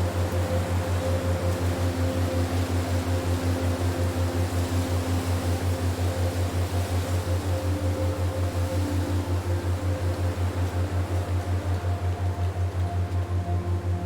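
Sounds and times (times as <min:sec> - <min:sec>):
pulsing low hum: 0:00.0 - 0:14.0.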